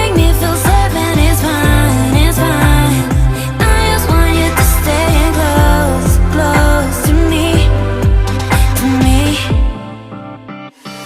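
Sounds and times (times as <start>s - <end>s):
deep kick drum: 0.0s - 9.8s
electronic music: 0.0s - 11.0s.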